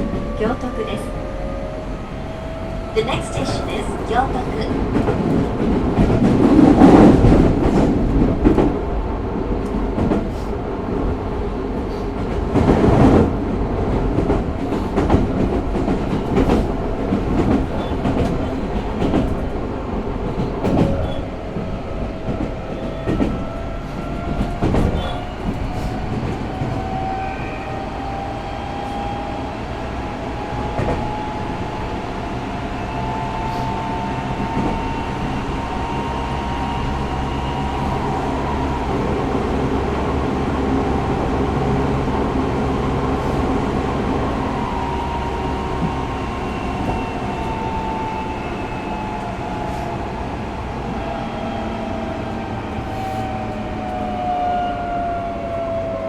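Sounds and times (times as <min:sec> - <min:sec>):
subway train rumble: 0:00.0 - 0:56.0.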